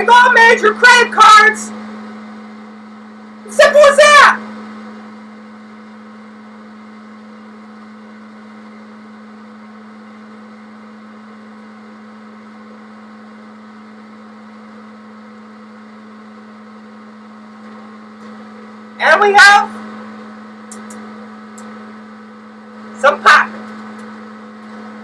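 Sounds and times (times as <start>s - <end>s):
popcorn machine humming: 0.0s - 25.0s.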